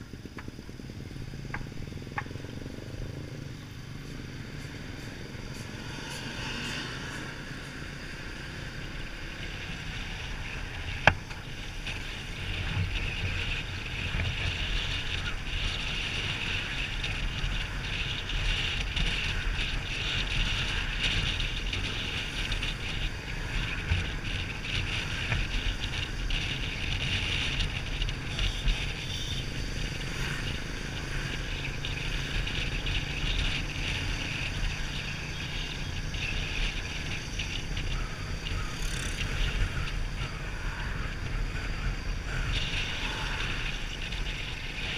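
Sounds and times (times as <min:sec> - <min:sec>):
motorcycle engine drone: 0:00.0 - 0:44.9
road noise: 0:00.0 - 0:44.9
wind rushing over microphone: 0:00.0 - 0:44.9.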